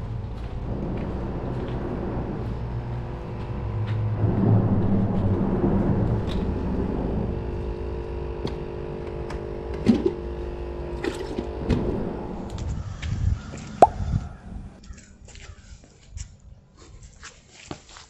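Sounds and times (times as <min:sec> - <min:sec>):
motor vehicle rumble: 0:00.0 - 0:14.8.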